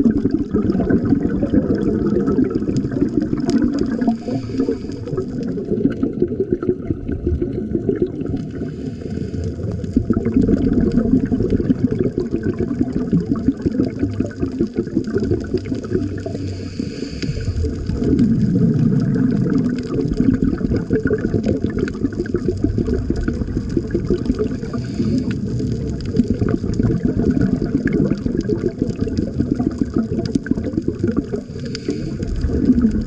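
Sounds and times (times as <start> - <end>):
muffled underwater rush: 0.0 - 33.0
water bubbling: 0.0 - 33.0.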